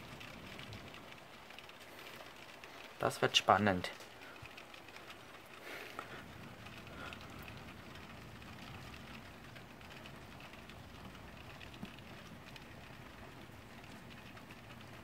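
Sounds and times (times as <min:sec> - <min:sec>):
rain falling: 0:00.0 - 0:15.0
ticks of raindrops: 0:00.0 - 0:15.0.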